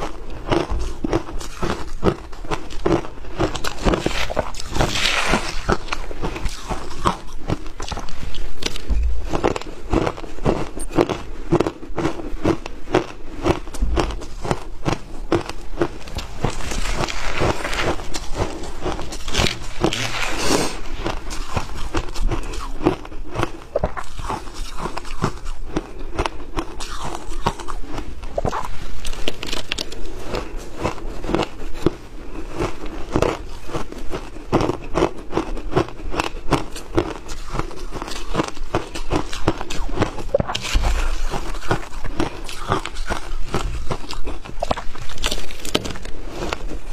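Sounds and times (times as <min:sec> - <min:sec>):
person crunching shaved ice: 0:00.0 - 0:46.9.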